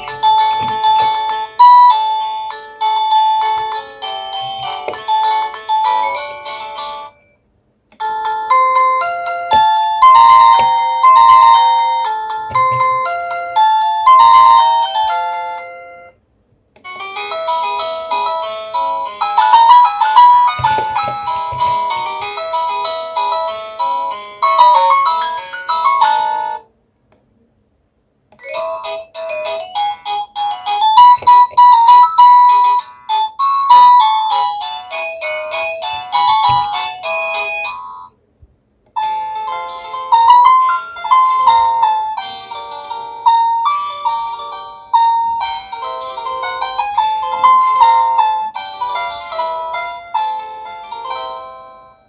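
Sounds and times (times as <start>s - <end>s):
doorbell melody ringtone: 0.0s - 7.4s, 8.0s - 16.2s, 16.9s - 26.7s, 28.4s - 38.2s, 39.0s - 52.0s.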